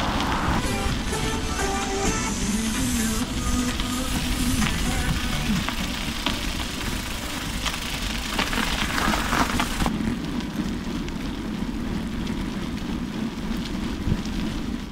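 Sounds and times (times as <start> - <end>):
bicycle tyres on snow: 0.0 - 14.9
wind on microphone: 0.0 - 14.9.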